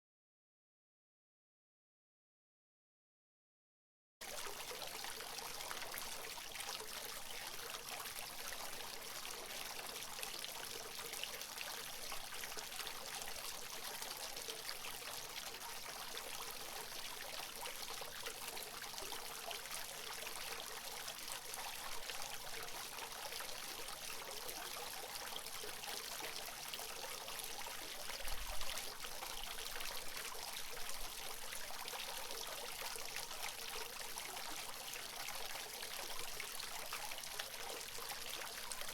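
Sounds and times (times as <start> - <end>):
fountain water trickling: 4.2 - 38.9.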